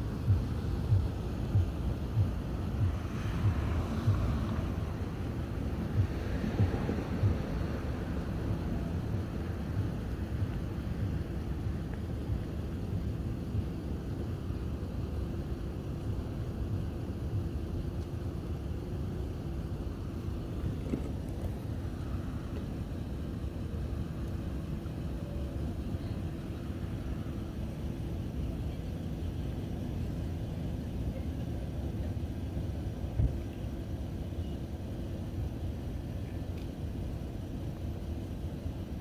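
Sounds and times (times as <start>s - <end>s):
low vehicle rumble: 0.0s - 39.0s.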